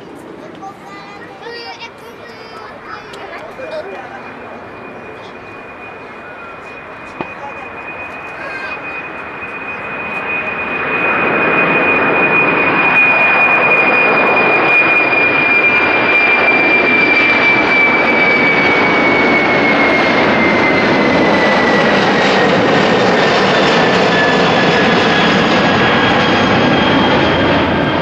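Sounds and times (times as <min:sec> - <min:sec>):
high jet whine: 0:00.0 - 0:28.0
jet engines roaring: 0:00.0 - 0:28.0.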